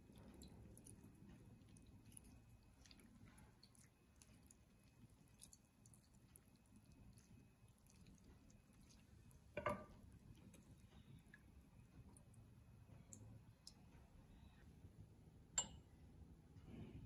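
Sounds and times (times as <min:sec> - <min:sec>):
wet squishing and ticks: 0:00.0 - 0:14.6.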